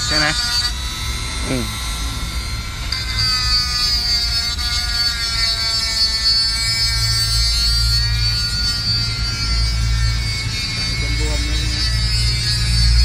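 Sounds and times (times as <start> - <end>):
rotary tool cutting metal: 0.0 - 13.0.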